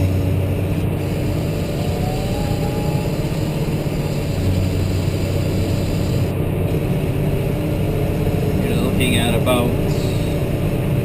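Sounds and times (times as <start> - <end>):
diesel engine running under load: 0.0 - 11.0
faint whine: 0.0 - 11.0.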